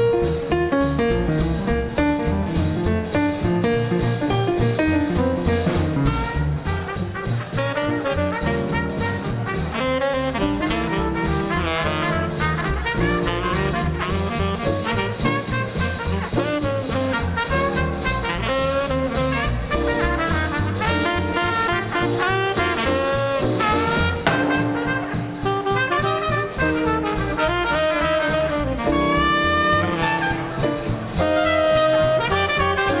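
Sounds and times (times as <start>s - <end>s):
drums: 0.0s - 33.0s
piano: 0.0s - 33.0s
string bass: 0.0s - 33.0s
trumpet: 2.2s - 33.0s
saxophone: 6.0s - 33.0s.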